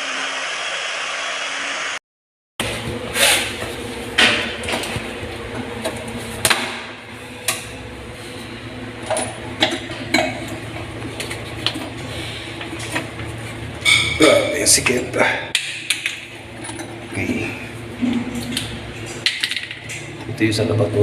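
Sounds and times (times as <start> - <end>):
steady hum: 0.0 - 2.0, 2.6 - 21.0.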